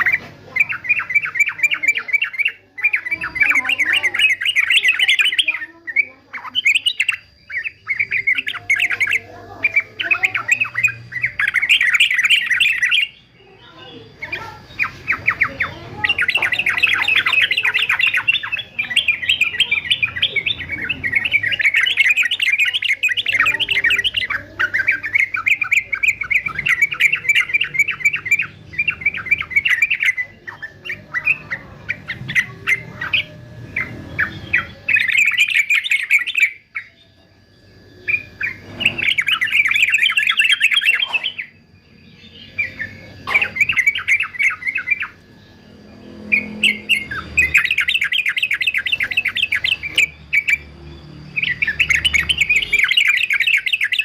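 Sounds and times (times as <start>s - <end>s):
bird singing chattering phrases: 0.0s - 54.0s.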